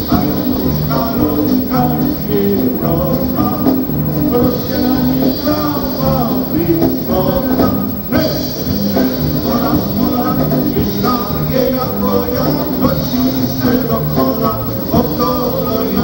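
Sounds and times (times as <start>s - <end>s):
polka band playing: 0.0s - 16.0s.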